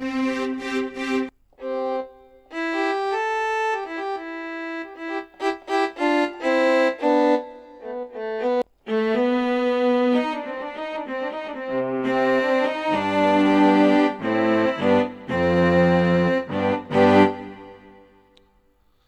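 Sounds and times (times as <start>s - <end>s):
synthesizer strings melody: 0.0s - 18.3s.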